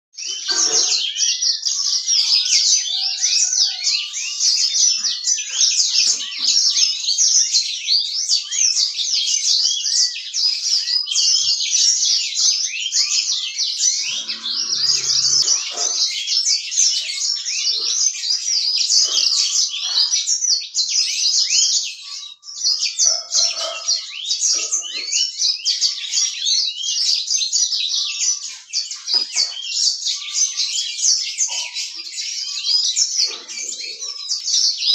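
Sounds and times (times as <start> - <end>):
canary singing: 0.2 - 34.9.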